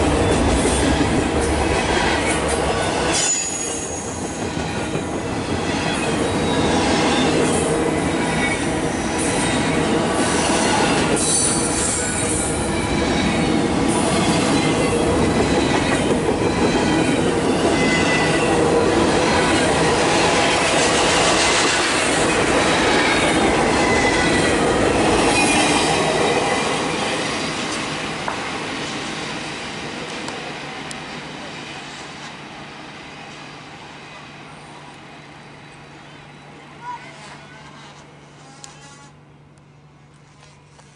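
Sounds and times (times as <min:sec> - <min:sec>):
train wheels rumbling on rail: 0:00.0 - 0:38.8.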